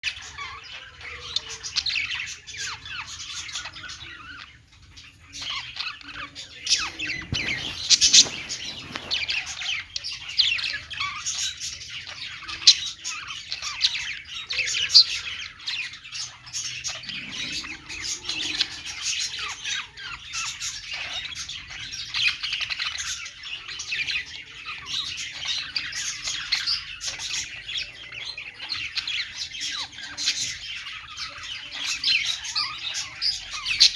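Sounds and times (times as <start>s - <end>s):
budgerigars chattering: 0.0s - 33.9s.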